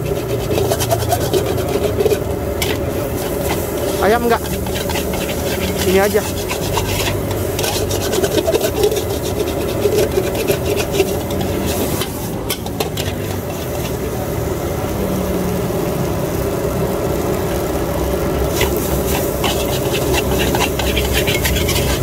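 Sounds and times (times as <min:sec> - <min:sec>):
metal spatula scraping a wok: 0:00.0 - 0:14.2, 0:18.5 - 0:22.0.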